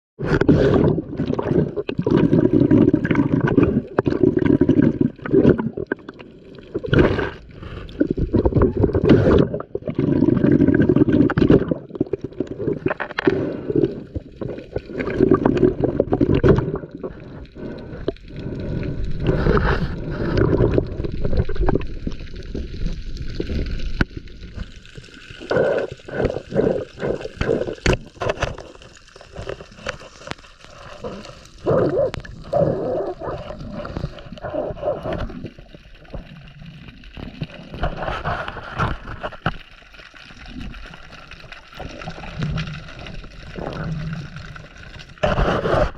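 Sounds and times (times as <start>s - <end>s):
underwater regulator bubbles: 0.2s - 45.9s.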